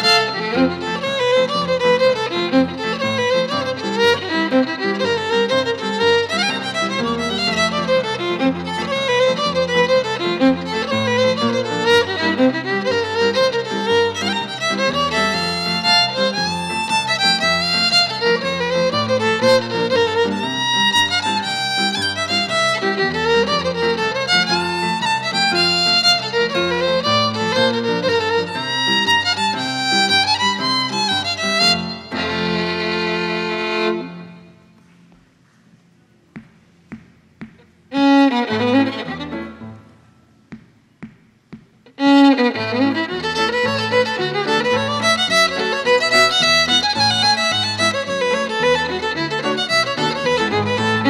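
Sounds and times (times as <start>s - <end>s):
solo fiddle playing a tune: 0.0s - 34.6s, 37.9s - 39.9s, 41.9s - 51.0s.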